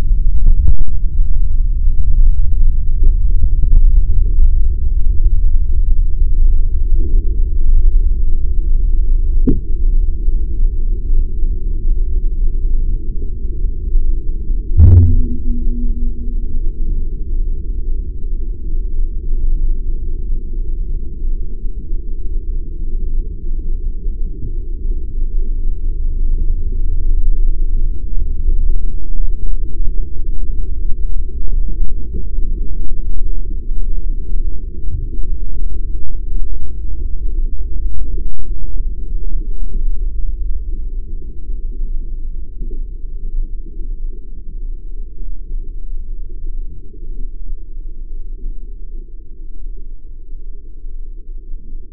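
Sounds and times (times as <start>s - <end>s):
deep rumble buffeting microphone: 0.0s - 21.1s, 23.2s - 51.9s.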